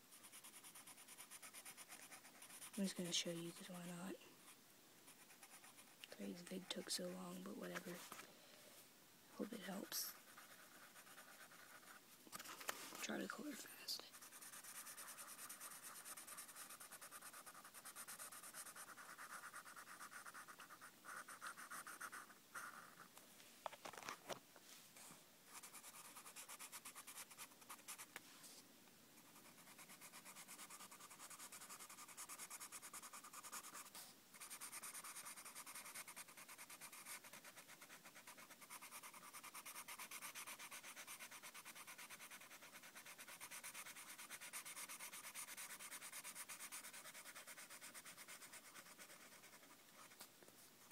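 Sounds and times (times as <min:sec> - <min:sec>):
marker scratching on paper: 0:00.2 - 0:04.2, 0:05.1 - 0:08.2, 0:09.4 - 0:23.1, 0:25.5 - 0:28.1, 0:29.2 - 0:50.2.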